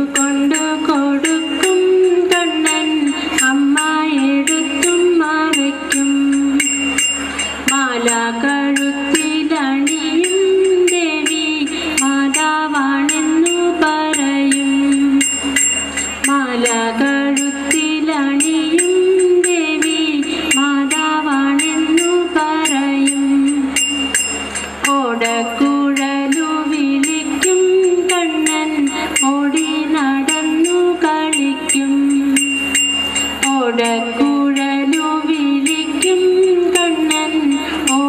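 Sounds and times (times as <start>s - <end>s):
person singing: 0.0s - 6.8s, 7.6s - 32.7s, 33.4s - 38.0s
jingling percussion beat: 0.0s - 38.0s.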